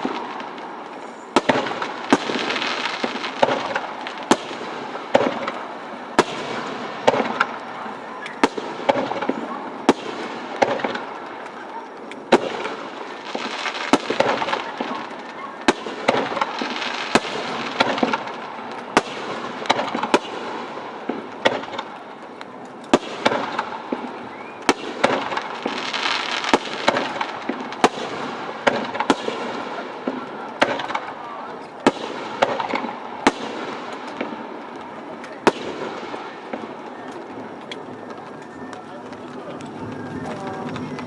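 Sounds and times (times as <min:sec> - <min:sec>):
fireworks bangs: 0:00.0 - 0:41.0
fireworks crackling hiss: 0:00.0 - 0:41.0.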